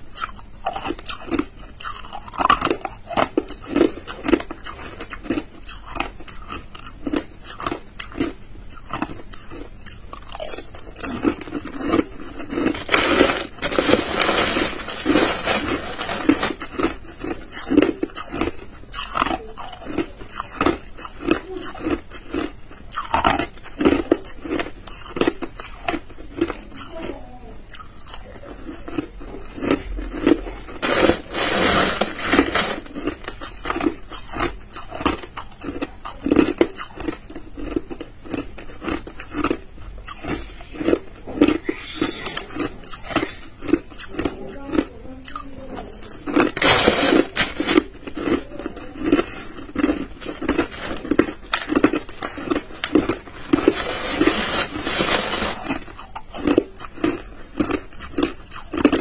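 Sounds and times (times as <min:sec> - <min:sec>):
crushed ice being chewed: 0:00.0 - 0:59.0.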